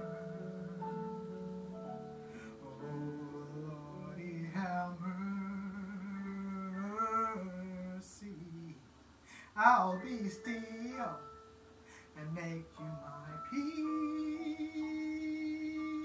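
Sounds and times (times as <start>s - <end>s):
soft instrumental backing chords: 0.0s - 7.6s, 9.6s - 16.0s.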